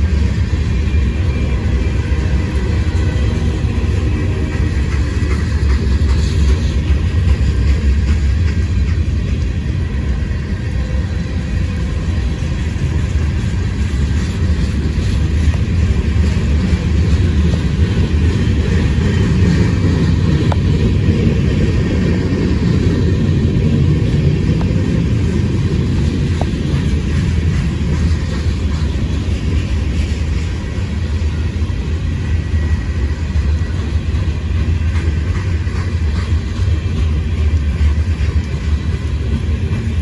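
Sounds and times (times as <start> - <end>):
train rolling past: 0.0 - 40.0.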